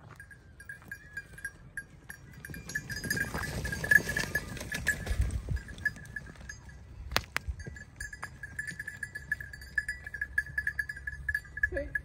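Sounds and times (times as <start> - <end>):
sheep hooves on stony ground: 0.0 - 12.0
small bell clinking: 0.0 - 12.0.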